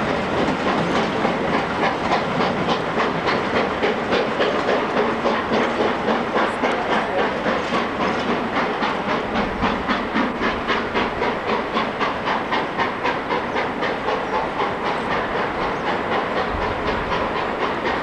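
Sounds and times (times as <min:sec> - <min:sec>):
steam hissing: 0:00.0 - 0:18.0
steam locomotive chuffing: 0:00.0 - 0:18.0.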